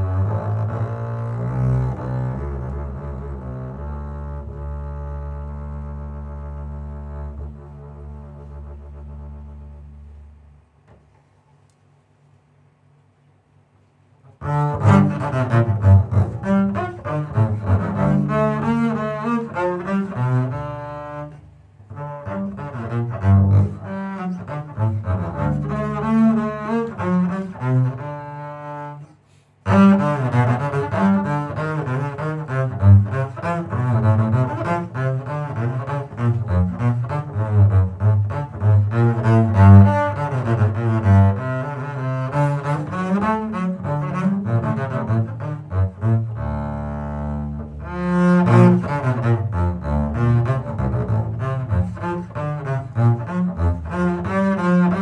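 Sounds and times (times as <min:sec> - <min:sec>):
bowed double bass solo: 0:00.0 - 0:10.7, 0:14.3 - 0:55.0.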